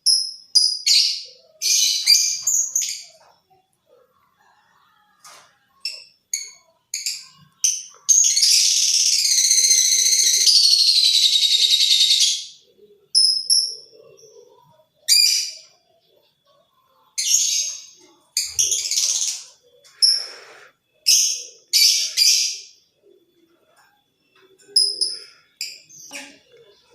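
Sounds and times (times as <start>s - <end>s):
lovebird chirping and chattering: 0.0s - 3.5s, 5.8s - 23.0s, 23.6s - 26.9s.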